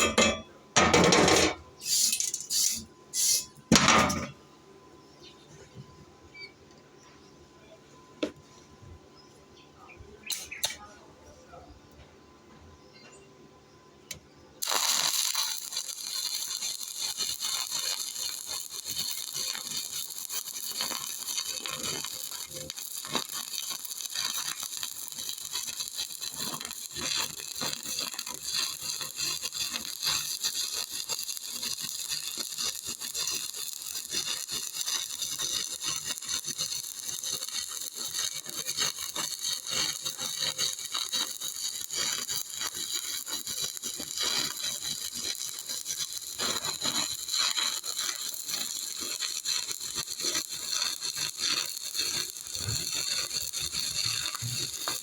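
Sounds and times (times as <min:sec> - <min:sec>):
welding arc crackling hiss: 0:00.0 - 0:04.4, 0:10.2 - 0:10.9, 0:14.1 - 0:55.0.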